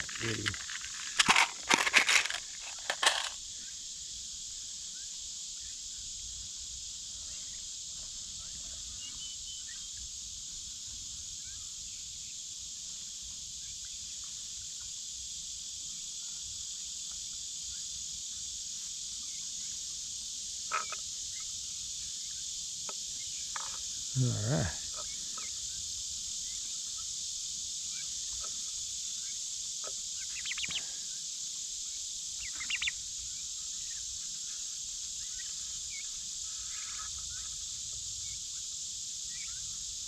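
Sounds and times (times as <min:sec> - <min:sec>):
insects chorus hissing: 0:00.0 - 0:40.0.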